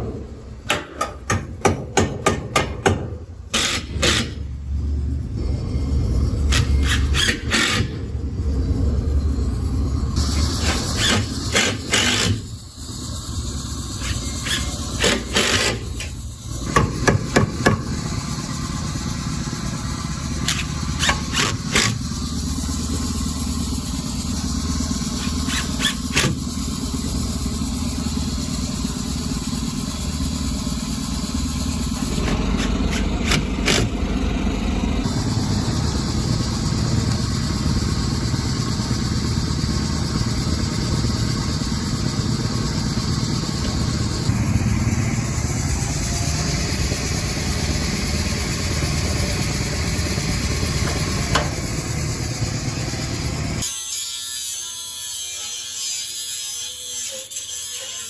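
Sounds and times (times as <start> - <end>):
low engine-like rumble: 0.0 - 53.6.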